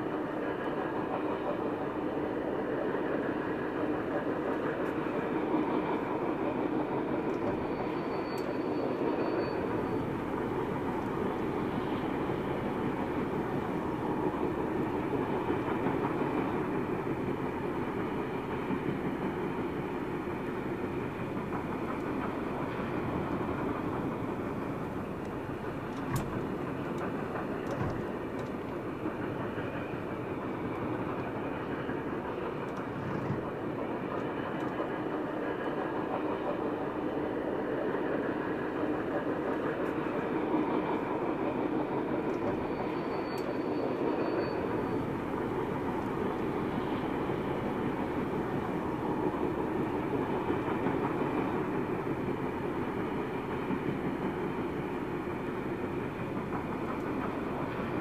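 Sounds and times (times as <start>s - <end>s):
steam train running on rails: 0.0s - 58.0s.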